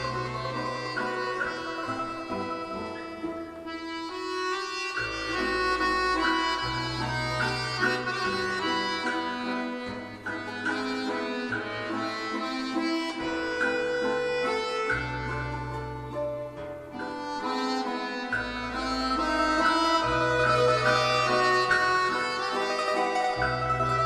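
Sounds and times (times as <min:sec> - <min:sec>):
instrumental background music: 0:00.0 - 0:24.0.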